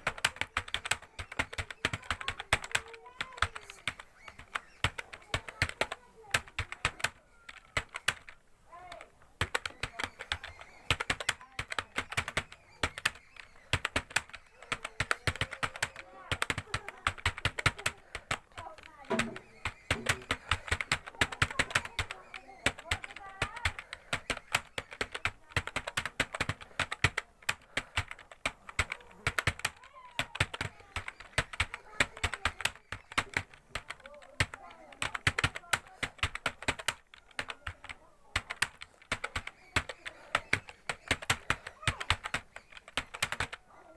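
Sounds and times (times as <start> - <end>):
fast computer keyboard typing: 0.0 - 43.9.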